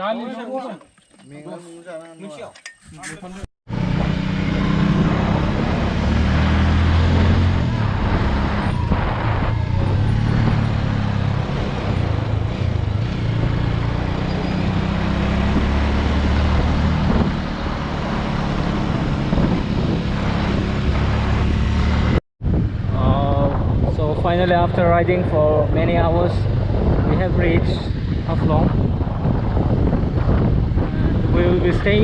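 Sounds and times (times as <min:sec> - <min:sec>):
wind and road noise: 0:00.5 - 0:32.0
motorcycle engine revving: 0:03.7 - 0:32.0.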